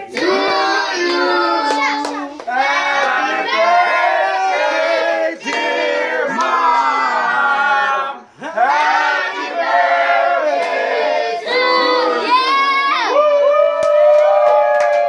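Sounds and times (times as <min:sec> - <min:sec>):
voices singing together: 0:00.0 - 0:13.1.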